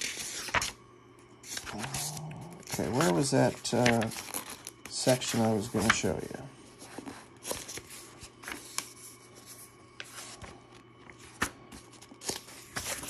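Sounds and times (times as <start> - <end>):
paper rustling: 0.0 - 0.8, 1.4 - 13.0.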